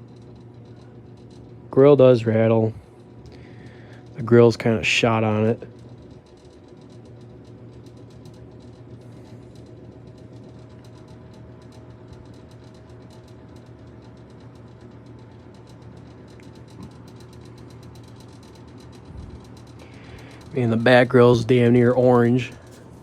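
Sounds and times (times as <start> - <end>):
box fan hum and whoosh: 0.0 - 23.0
fan grill rattling: 0.0 - 23.0.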